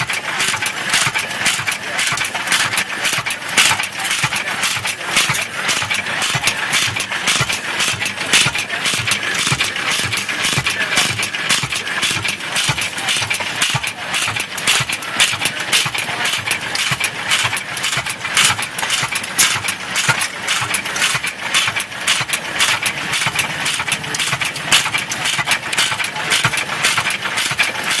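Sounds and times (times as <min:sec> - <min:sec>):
stationary engine clattering: 0:00.0 - 0:28.0.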